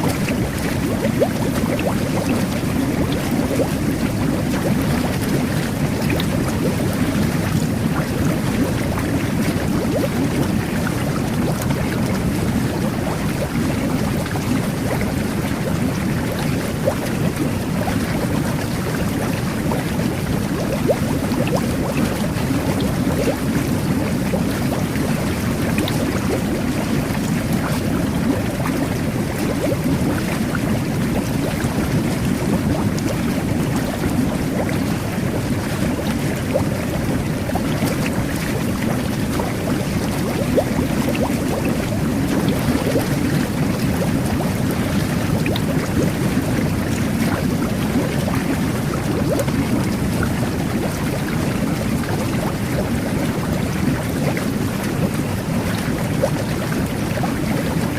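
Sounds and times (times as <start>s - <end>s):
jet bath water bubbling: 0.0s - 57.9s.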